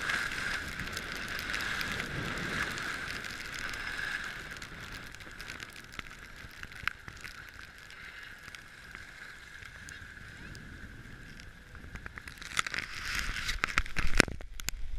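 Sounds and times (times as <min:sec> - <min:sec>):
skis sliding on packed snow: 0:00.0 - 0:14.3.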